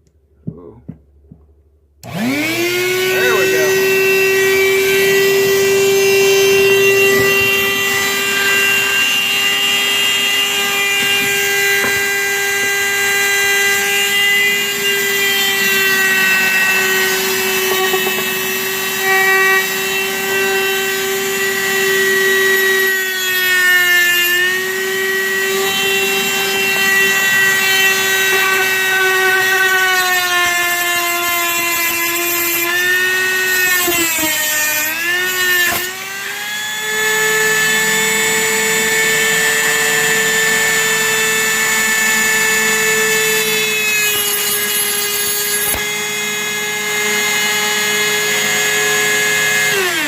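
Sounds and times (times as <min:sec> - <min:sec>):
rotary tool cutting plastic: 0:02.0 - 0:50.0.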